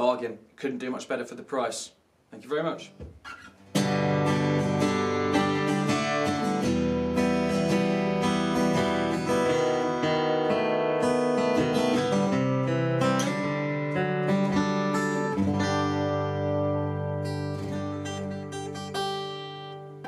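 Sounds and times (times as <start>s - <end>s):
acoustic guitar chords: 2.9s - 20.0s.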